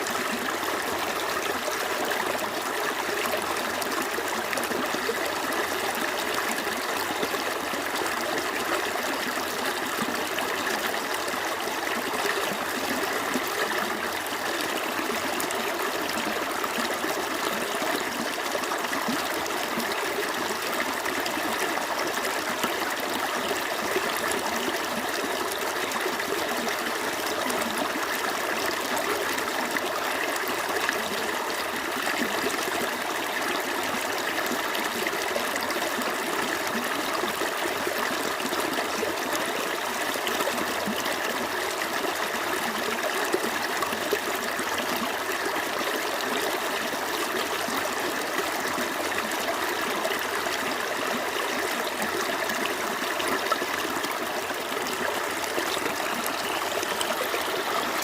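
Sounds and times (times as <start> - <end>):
stream babbling and trickling: 0.0 - 58.0.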